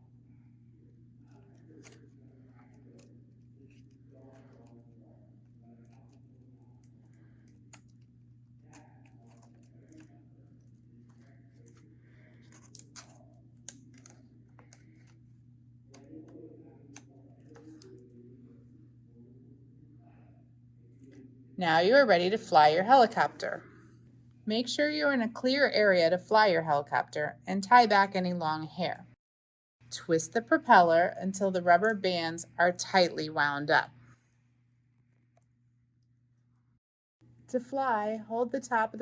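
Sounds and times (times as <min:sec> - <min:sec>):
steady low hum: 0:00.0 - 0:29.2, 0:29.8 - 0:39.0.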